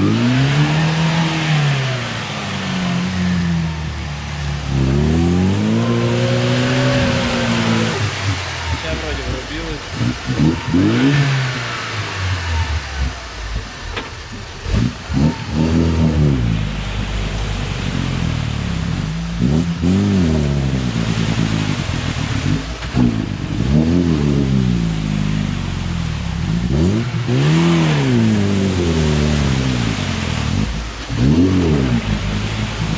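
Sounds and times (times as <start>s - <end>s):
off-road vehicle engine revving: 0.0s - 32.9s.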